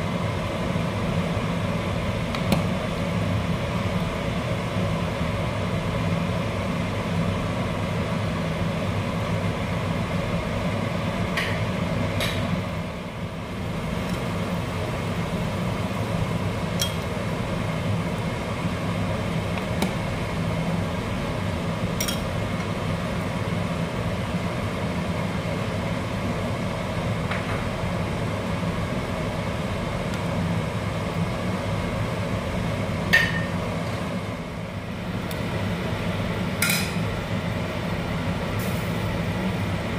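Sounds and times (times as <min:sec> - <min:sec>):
low kitchen hum: 0:00.0 - 0:39.9.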